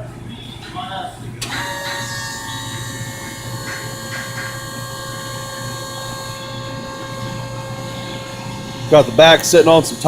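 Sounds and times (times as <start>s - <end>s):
machine whining over low hum: 1.4s - 10.0s.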